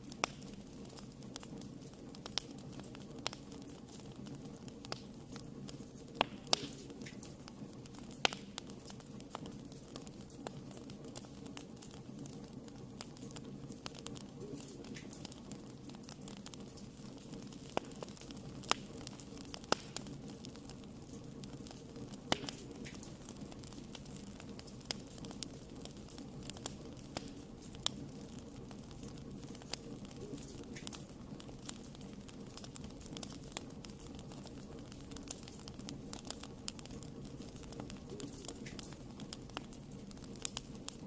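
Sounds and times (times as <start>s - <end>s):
fire burning in a fireplace: 0.0s - 41.0s.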